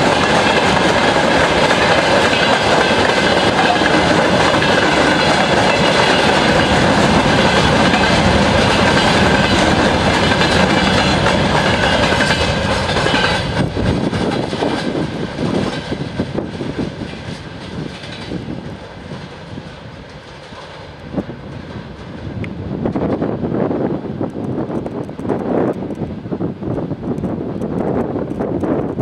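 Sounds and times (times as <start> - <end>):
freight train wheels rumbling on rails: 0.0 - 29.0.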